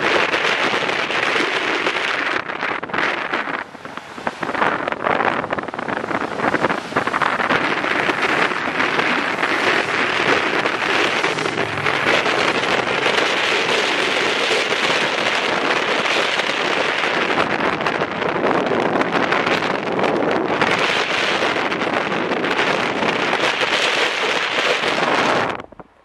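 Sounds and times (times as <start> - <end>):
road noise: 0.0 - 26.0
wind buffeting microphone: 0.0 - 26.0.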